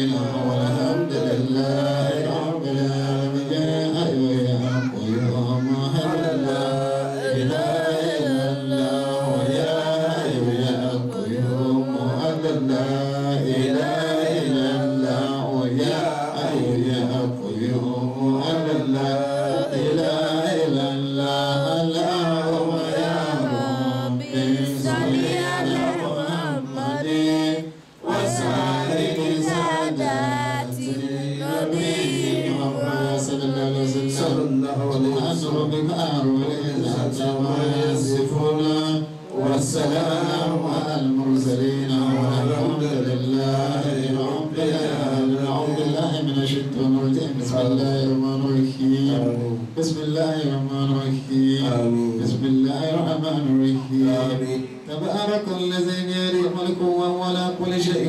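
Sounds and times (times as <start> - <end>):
man chanting: 0.0 - 58.0.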